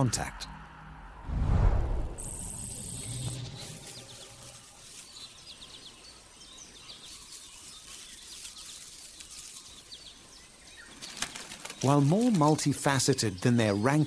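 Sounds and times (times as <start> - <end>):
small birds chirping: 2.2 - 14.0.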